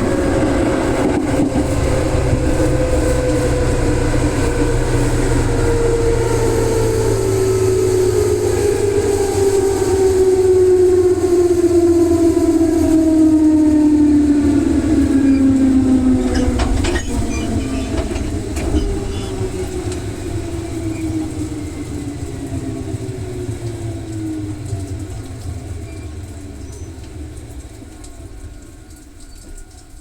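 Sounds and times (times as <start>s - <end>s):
electric train motors whining: 0.0s - 28.0s
low running rumble: 0.0s - 28.9s.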